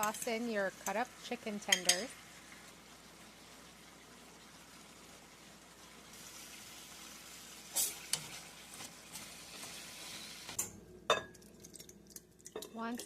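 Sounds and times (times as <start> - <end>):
food sizzling in a frying pan: 0.0 - 11.6.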